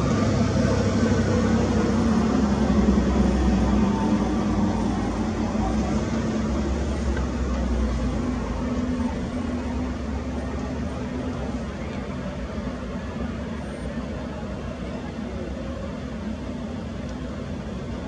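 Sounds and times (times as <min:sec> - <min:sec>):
distant city traffic rumble: 0:00.0 - 0:18.0
faint engine hum: 0:00.0 - 0:18.0.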